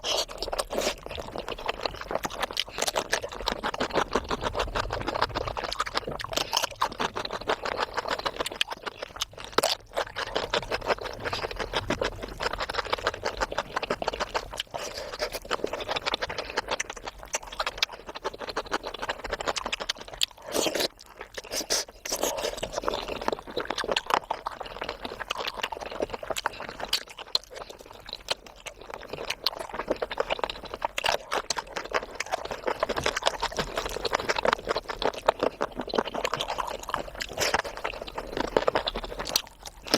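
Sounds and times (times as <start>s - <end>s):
chewing and wet mouth noises: 0.0s - 39.9s.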